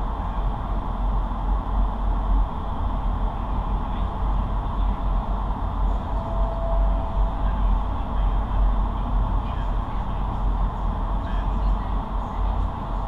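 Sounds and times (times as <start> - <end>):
rushing air in wind tunnel: 0.0 - 13.0.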